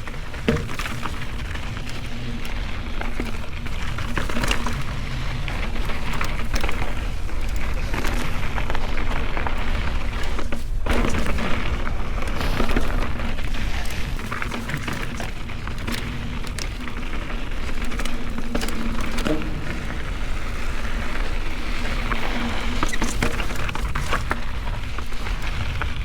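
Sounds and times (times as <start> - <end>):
bike clicks and rattles: 0.0 - 26.0
tyres crunching over dirt and stones: 0.0 - 26.0
wind rumbling on microphone: 0.0 - 26.0.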